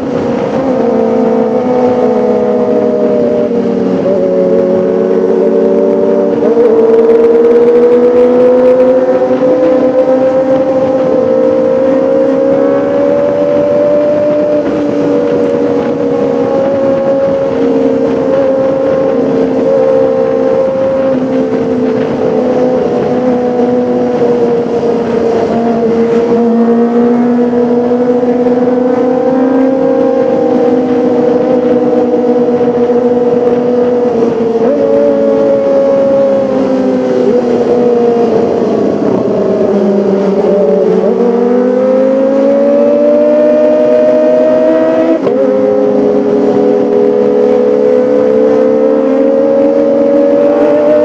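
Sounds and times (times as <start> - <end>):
motorcycle engine at high revs: 0.0 - 51.0.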